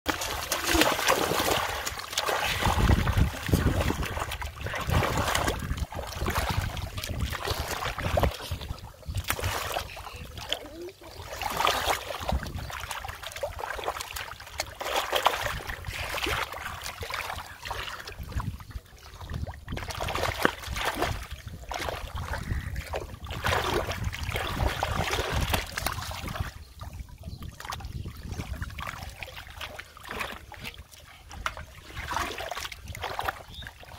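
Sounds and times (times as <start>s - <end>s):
fish thrashing in shallow water: 0.1s - 33.9s.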